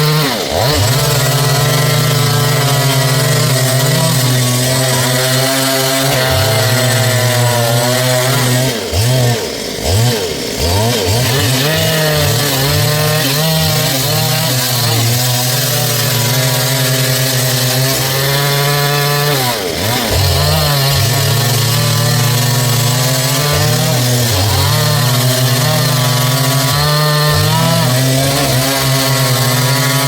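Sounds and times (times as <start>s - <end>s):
chainsaw cutting a log: 0.0s - 30.0s.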